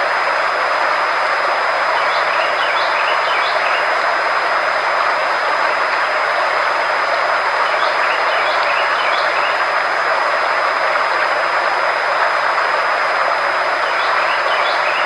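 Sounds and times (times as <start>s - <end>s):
constant high-pitched tone: 0.0s - 15.0s.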